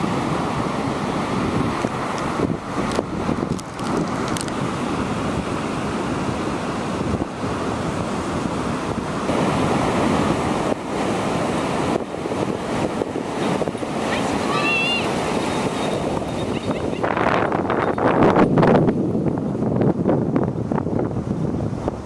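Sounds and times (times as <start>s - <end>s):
sea surf: 0.0s - 22.0s
wind buffeting microphone: 0.0s - 22.0s.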